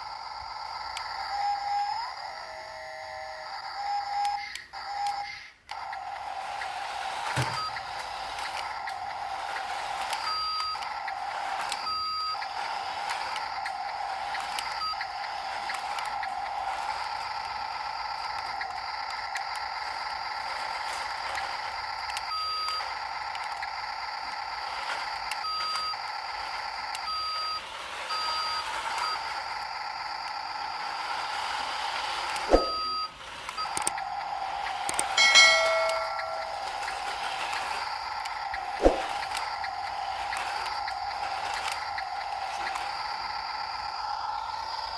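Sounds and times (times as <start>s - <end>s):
toy truck motor whining: 0.0s - 44.9s
electronic reversing beeps: 7.3s - 44.9s.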